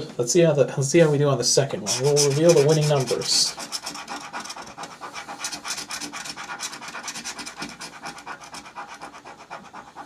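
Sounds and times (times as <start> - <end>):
scratching lottery ticket coating: 1.8 - 10.0.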